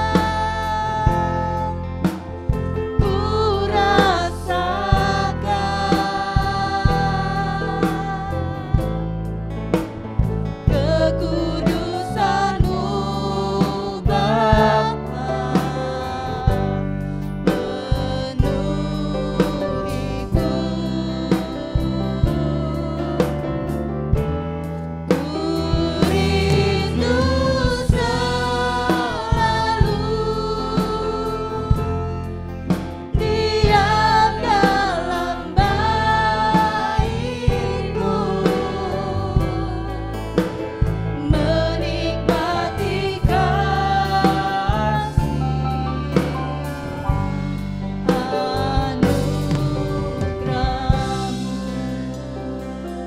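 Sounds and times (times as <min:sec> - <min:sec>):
voices singing gospel: 0:00.0 - 0:24.0, 0:25.1 - 0:53.0
band with drum kit: 0:00.0 - 0:53.0.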